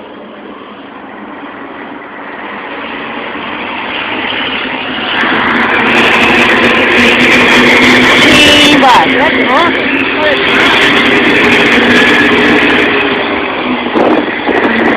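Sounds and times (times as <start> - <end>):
truck diesel engine running: 0.0 - 14.9.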